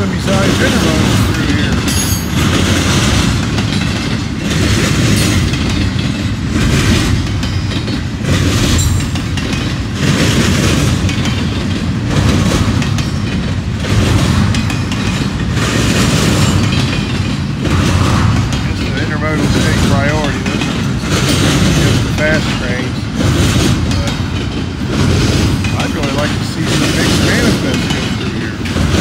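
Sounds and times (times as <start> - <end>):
train wheels on rails: 0.0 - 29.0
wheels clickety-clack: 0.0 - 29.0.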